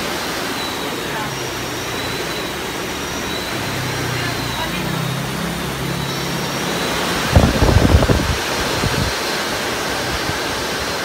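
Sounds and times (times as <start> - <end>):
electric motor wheel whirring: 0.0 - 11.0.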